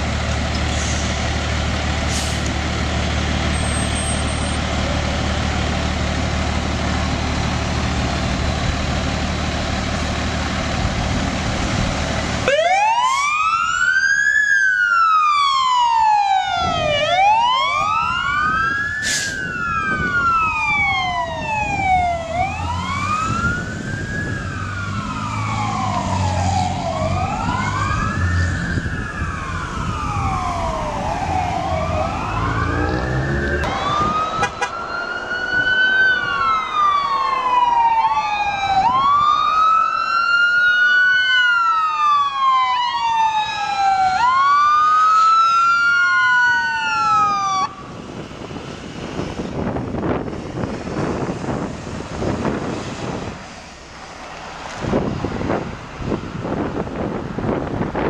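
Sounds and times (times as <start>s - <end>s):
heavy engine low rumble: 0.0s - 12.6s, 16.5s - 39.8s, 45.9s - 58.0s
emergency vehicle sirens: 0.0s - 58.0s
fire truck sirens wailing: 0.0s - 58.0s.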